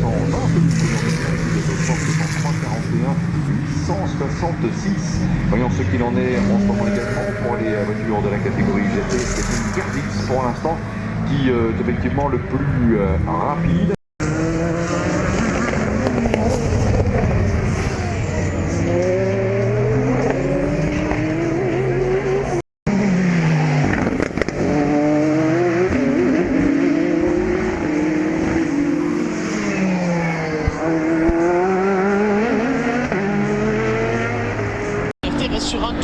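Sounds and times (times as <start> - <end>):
race cars passing at speed: 0.0 - 36.0.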